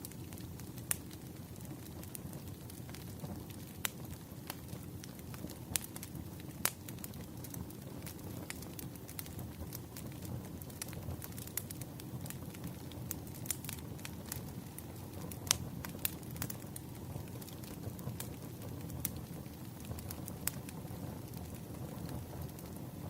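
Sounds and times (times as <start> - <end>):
wood crackling and popping: 0.0 - 23.0.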